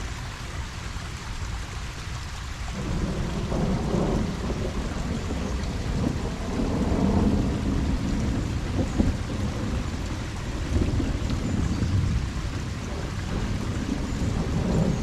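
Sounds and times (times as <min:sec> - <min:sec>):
steady rain falling: 0:00.0 - 0:15.0
thunder rumbling: 0:02.8 - 0:15.0.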